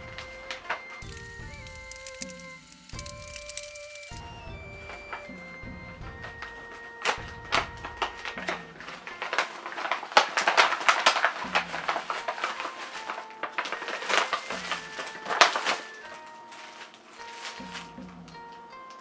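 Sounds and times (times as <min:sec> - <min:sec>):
packaging crinkling and rustling: 0:00.0 - 0:05.4, 0:06.1 - 0:19.0
light background music: 0:00.0 - 0:19.0.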